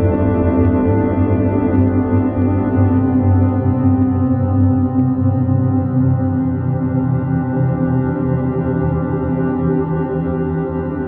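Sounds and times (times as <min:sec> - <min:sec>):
ambient music with held tones: 0:00.0 - 0:11.0.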